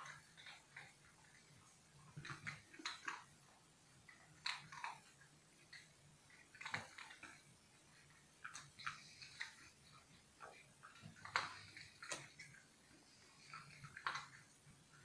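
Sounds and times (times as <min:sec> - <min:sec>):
puppies chewing and nibbling: 0:00.0 - 0:15.0.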